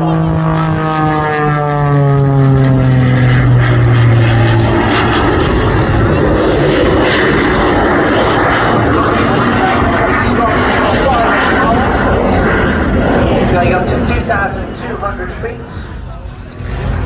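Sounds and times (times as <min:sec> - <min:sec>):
aircraft engine passing overhead: 0:00.0 - 0:17.0
broad rushing noise: 0:00.0 - 0:17.0.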